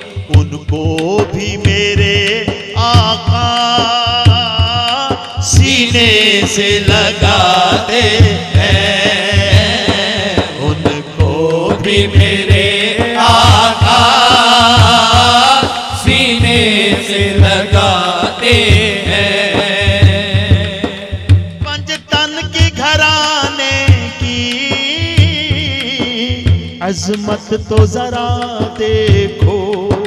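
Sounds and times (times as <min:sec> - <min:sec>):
man singing melismatic phrases: 0:00.0 - 0:30.0.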